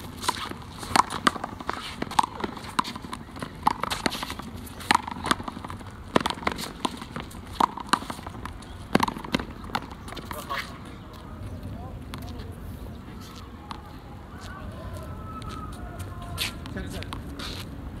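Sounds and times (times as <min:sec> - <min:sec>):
sneakers scuffing: 0:00.0 - 0:17.8.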